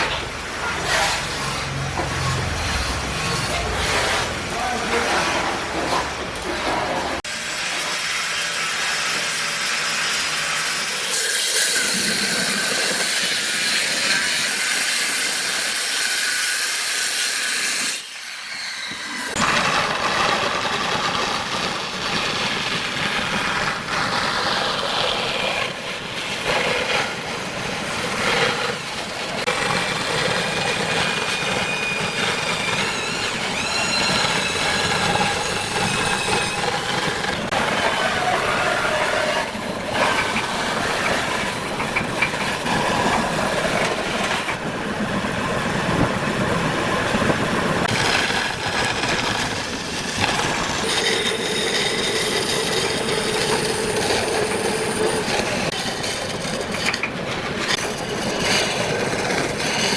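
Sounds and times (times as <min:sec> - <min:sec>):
power tools cutting wood: 0:00.0 - 0:44.6, 0:47.7 - 0:59.9.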